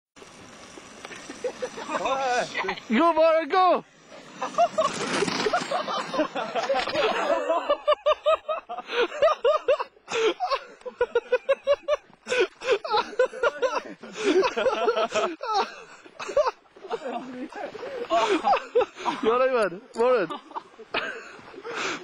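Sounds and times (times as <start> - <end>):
hard laughter in bursts: 1.1 - 2.9, 4.3 - 19.4, 20.3 - 22.0.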